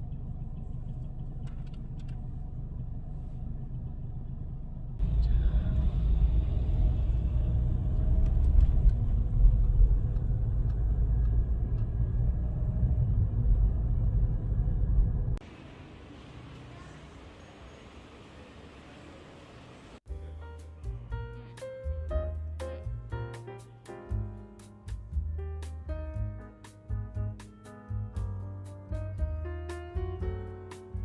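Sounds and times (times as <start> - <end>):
vehicle rumble: 0.0 - 31.0.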